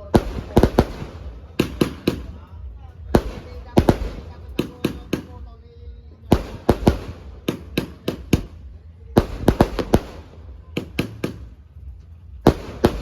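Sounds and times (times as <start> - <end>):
fireworks bangs: 0.0 - 5.6, 6.2 - 13.0.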